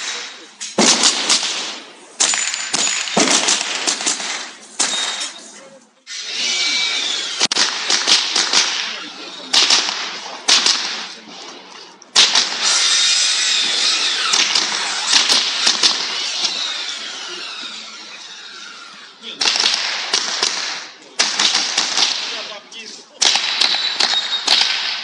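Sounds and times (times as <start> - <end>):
rifle shots: 0.0 - 5.4, 7.0 - 18.3, 19.2 - 22.6, 23.2 - 25.0.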